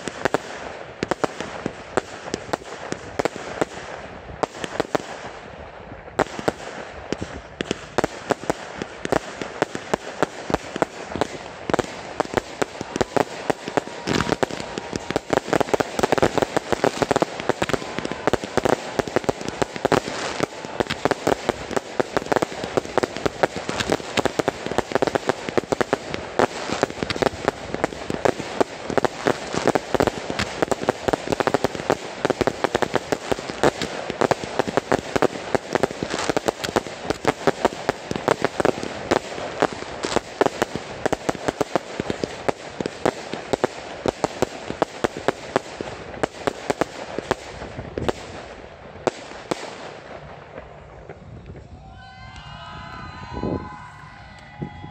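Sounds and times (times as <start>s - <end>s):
fireworks rapid pops and cracks: 0.0s - 52.5s.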